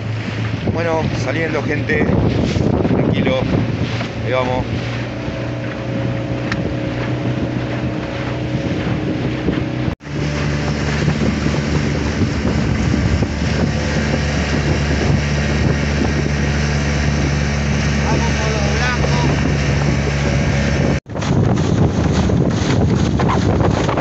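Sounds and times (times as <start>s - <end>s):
outboard motor running: 0.0s - 24.0s
wind buffeting microphone: 0.0s - 24.0s.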